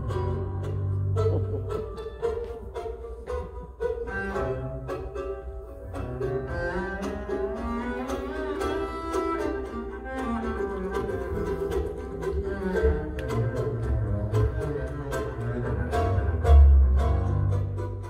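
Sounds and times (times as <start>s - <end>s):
bowed double bass: 0.0s - 18.0s
mandolins picking: 0.0s - 18.0s.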